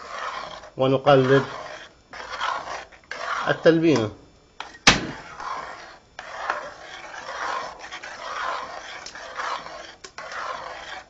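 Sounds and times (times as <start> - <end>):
spoon stirring in metal pot: 0.0 - 11.0.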